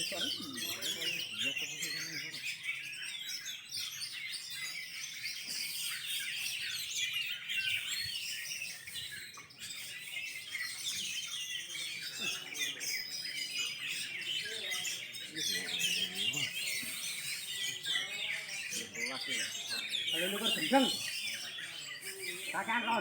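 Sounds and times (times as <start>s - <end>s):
chorus of birds singing: 0.0s - 23.0s.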